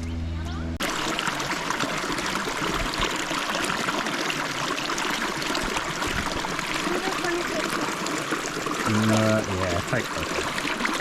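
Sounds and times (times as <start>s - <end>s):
creek water rushing over rocks: 0.8s - 11.0s.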